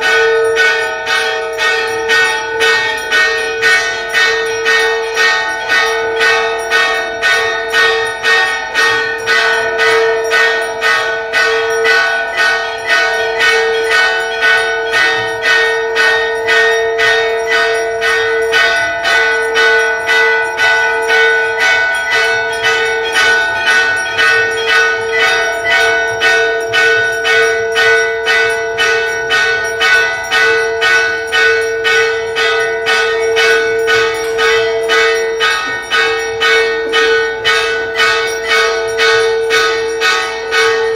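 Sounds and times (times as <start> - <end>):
brass bells ringing: 0.0 - 40.9.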